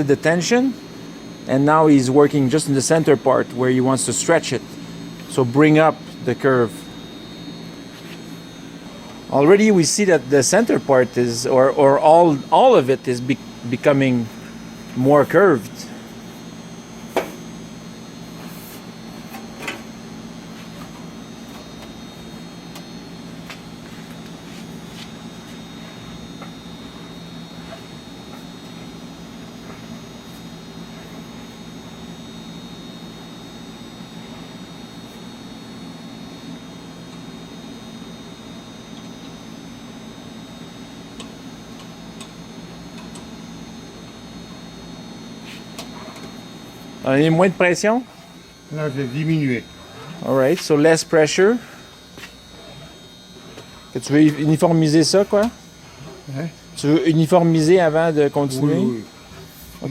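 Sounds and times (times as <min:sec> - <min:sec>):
workshop hum: 0:00.0 - 0:59.9.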